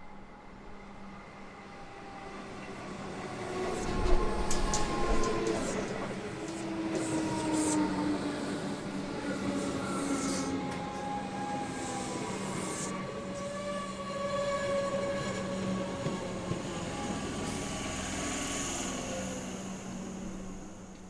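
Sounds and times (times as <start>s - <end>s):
train wheels rumbling on rails: 2.0s - 21.0s.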